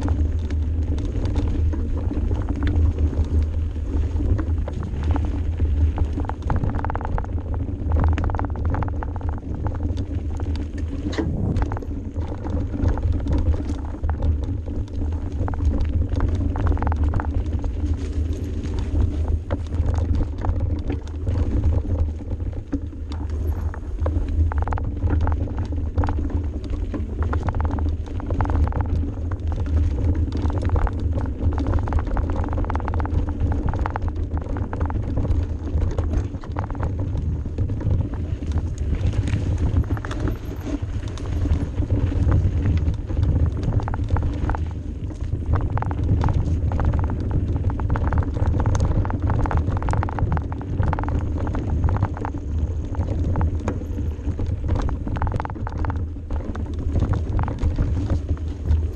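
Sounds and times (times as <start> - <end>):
bike rattling over bumps: 0.0 - 58.9
rumble of wind and tyres: 0.0 - 58.9.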